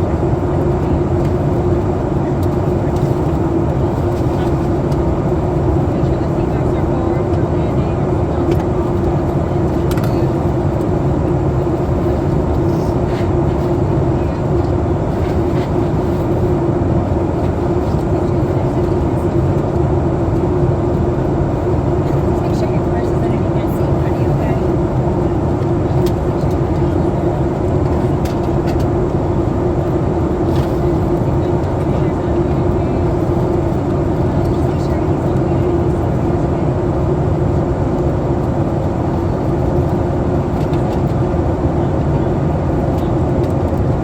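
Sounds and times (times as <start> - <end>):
airplane cabin roar: 0.0 - 44.0
jet engines droning: 0.0 - 44.0.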